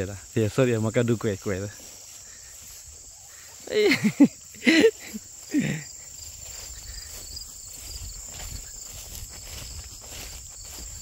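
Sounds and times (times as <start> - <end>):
insects chirping: 0.0 - 11.0
footsteps swishing through grass: 0.6 - 11.0.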